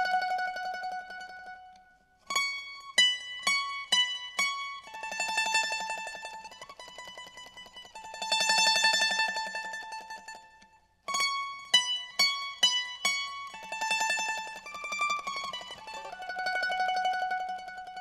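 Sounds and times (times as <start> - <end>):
plucked instrumental melody: 0.0 - 18.0.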